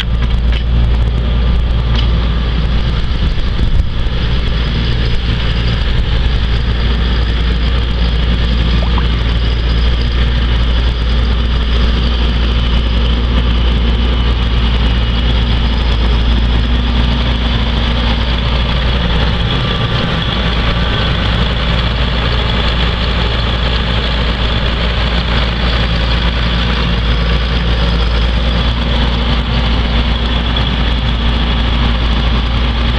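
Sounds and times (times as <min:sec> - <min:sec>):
tractor diesel engine passing: 0:00.0 - 0:32.9.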